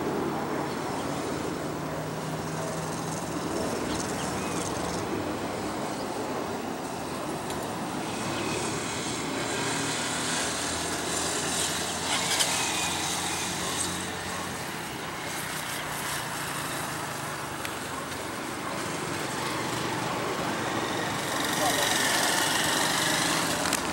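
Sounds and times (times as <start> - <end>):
distant jet engine roar: 0.0 - 23.9.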